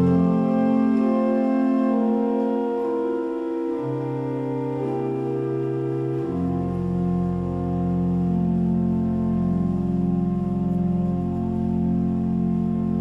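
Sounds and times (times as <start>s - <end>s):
church organ chords: 0.0s - 13.0s.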